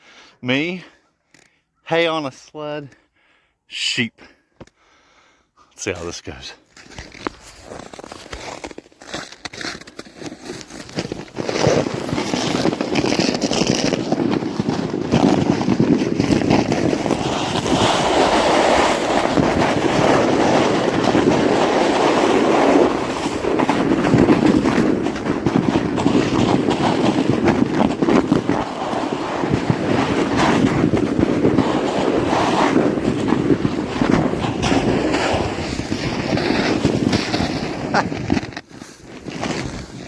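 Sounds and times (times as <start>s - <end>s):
sled scraping over snow: 6.3s - 40.0s.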